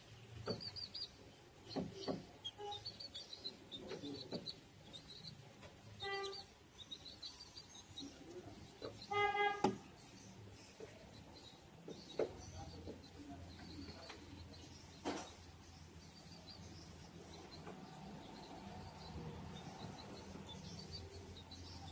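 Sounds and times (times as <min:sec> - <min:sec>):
chickens chirping: 0:00.0 - 0:21.9.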